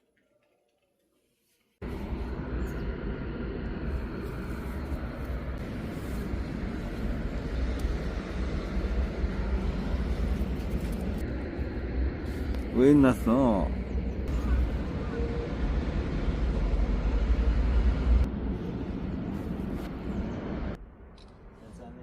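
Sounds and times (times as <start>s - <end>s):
low rumble: 1.8s - 21.6s.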